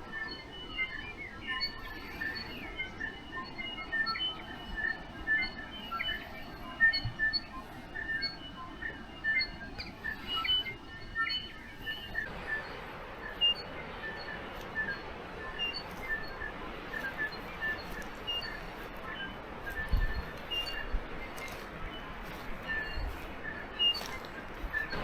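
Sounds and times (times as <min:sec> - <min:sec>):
birds chirping and calling: 0:00.0 - 0:25.0
steady background hiss: 0:00.0 - 0:25.0.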